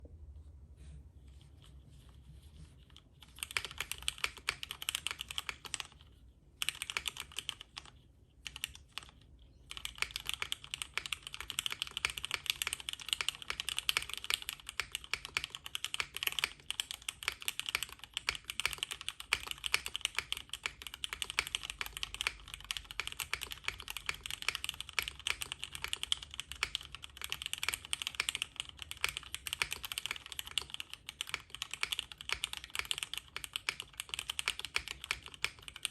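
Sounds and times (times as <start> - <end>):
fast typing on mechanical keyboard: 3.2 - 6.0, 6.6 - 35.9.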